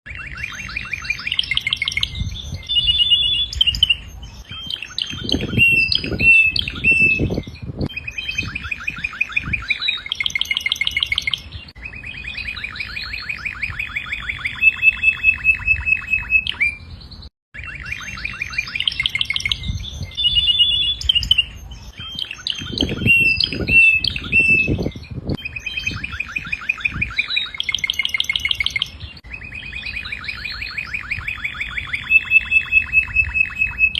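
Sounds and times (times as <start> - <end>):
canary singing: 0.1 - 33.9.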